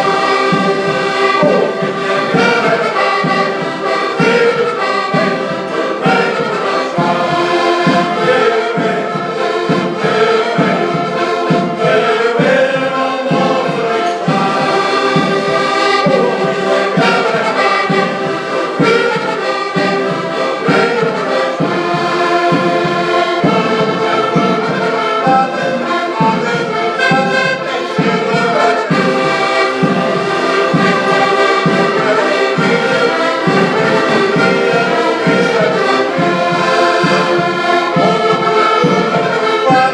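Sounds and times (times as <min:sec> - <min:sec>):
music with brass and choir: 0:00.0 - 0:39.9.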